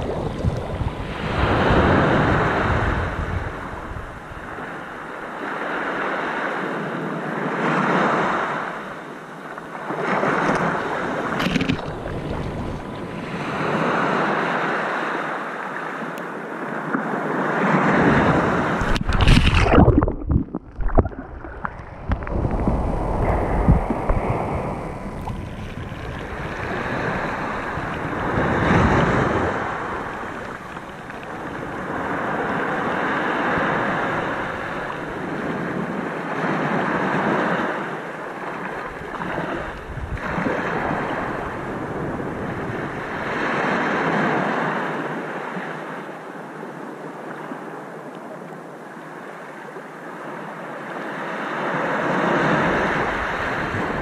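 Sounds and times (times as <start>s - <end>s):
sea waves surf: 0.0s - 54.0s.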